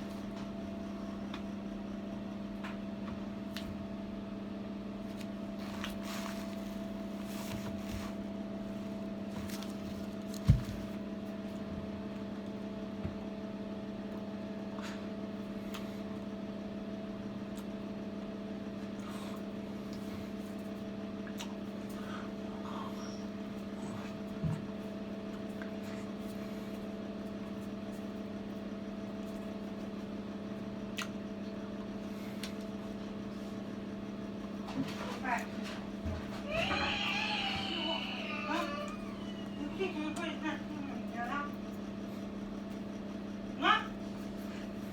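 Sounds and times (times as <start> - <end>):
electrical appliance hum: 0.0 - 44.9.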